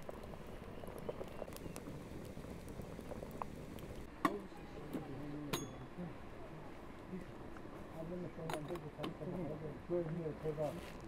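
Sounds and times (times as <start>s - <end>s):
water boiling and bubbling: 0.0s - 11.0s.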